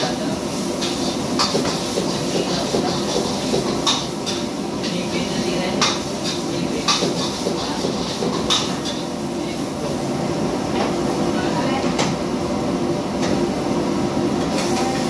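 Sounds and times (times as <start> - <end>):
gas burner and hood rushing: 0.0 - 15.0.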